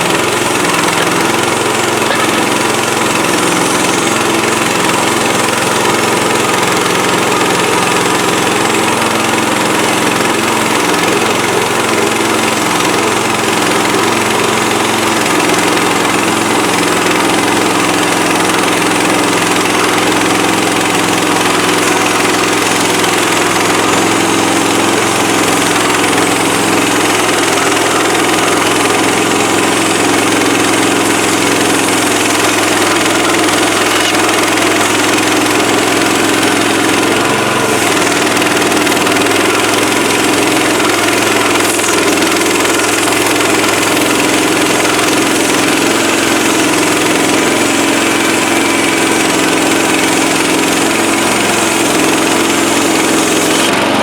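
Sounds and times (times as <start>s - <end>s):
sawmill gasoline engine running: 0.0s - 54.0s.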